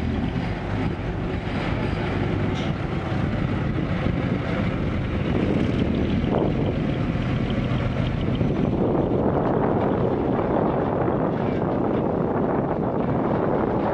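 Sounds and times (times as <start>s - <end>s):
diesel truck engines rumbling: 0.0s - 13.9s.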